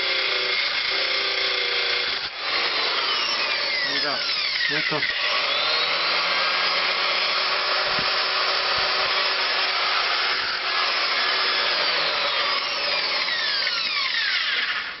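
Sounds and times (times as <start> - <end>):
angle grinder whirring: 0.0 - 15.0.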